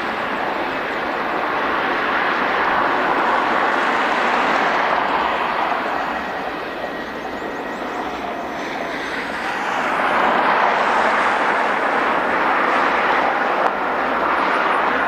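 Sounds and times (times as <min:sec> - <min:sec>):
jet airliner engines rushing: 0:00.0 - 0:15.0.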